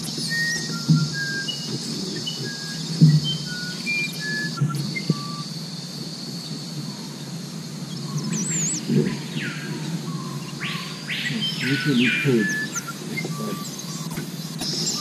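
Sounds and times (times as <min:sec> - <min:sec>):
bird calls rising and falling: 0:00.0 - 0:05.7, 0:07.0 - 0:15.0
birds whistling: 0:00.0 - 0:15.0
high insect drone: 0:00.0 - 0:15.0
low steady hum: 0:00.0 - 0:15.0.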